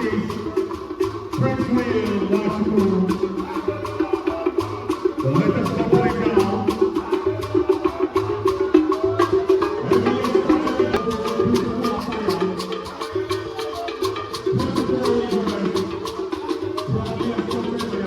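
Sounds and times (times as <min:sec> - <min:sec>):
music with wood-block clicks: 0:00.2 - 0:18.0.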